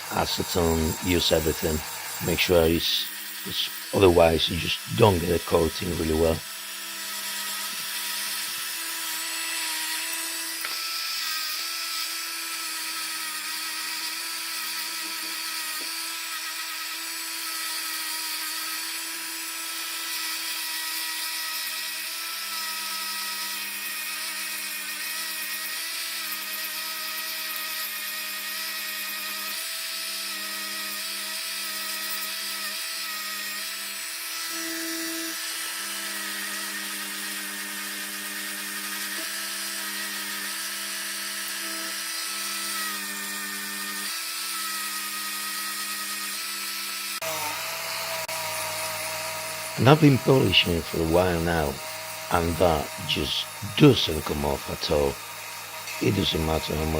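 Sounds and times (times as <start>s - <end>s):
electric rotary tool whining: 0.0s - 56.9s.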